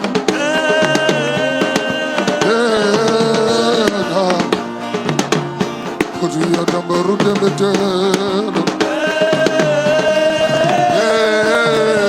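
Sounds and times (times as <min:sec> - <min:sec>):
drums and hand percussion: 0:00.0 - 0:12.0.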